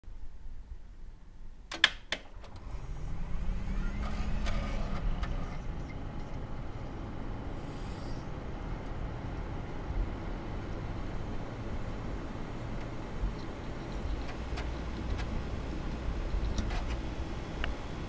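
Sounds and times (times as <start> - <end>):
computer fans humming: 2.5 - 18.0.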